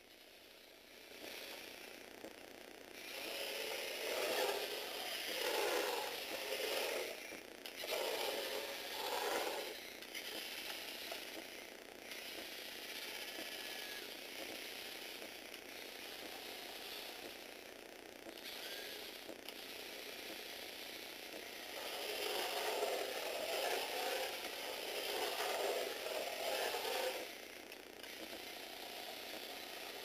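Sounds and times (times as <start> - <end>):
small electric motor whirring: 0.1 - 30.0.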